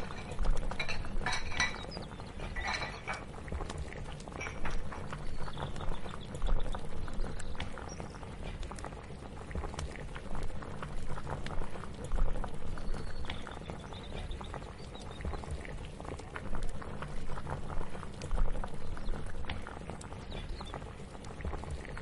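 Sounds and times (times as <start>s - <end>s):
liquid bubbling on the boil: 0.0s - 22.0s.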